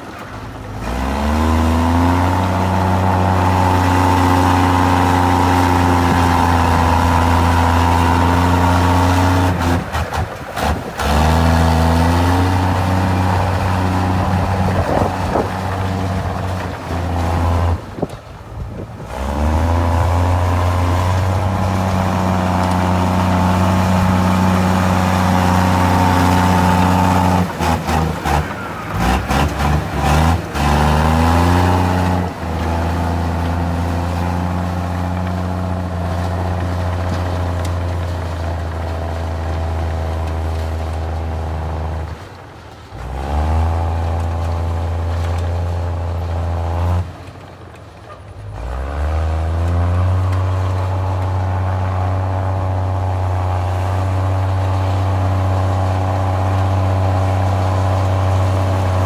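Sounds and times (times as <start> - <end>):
bulldozer diesel engine running hard: 0.0 - 59.0
rock and soil being pushed: 0.0 - 59.0.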